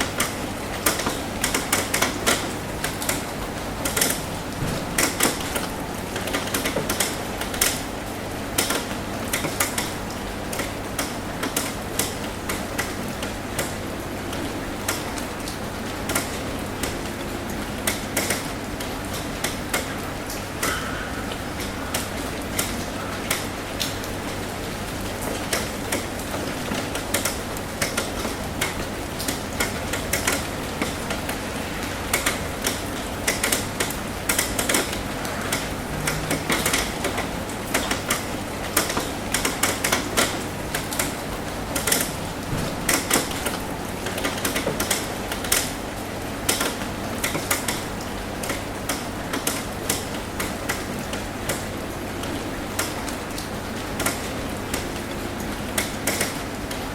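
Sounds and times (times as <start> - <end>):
raindrops on a metal roof: 0.0 - 56.9.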